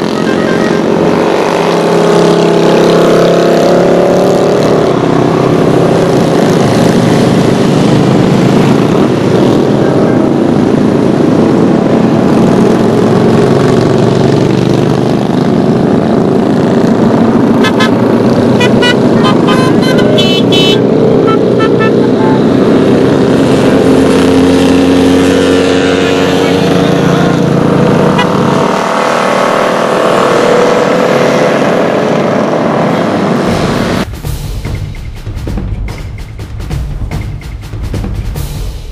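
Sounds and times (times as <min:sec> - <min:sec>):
motorcycles riding past: 0:00.0 - 0:34.1.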